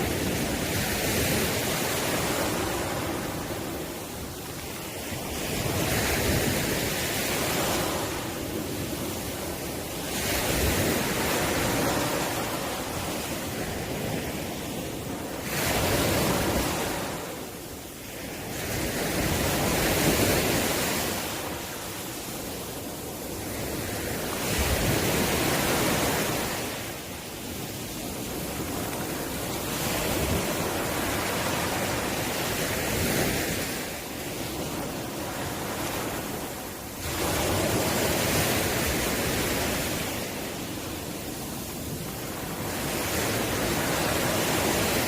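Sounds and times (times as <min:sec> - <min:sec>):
ocean waves breaking on shore: 0:00.0 - 0:45.0.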